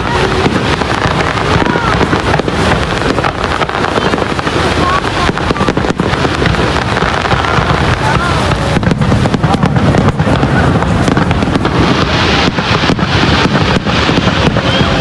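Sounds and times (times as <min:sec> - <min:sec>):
fireworks bursting and crackling: 0:00.0 - 0:15.0
waterfall rushing: 0:00.0 - 0:15.0.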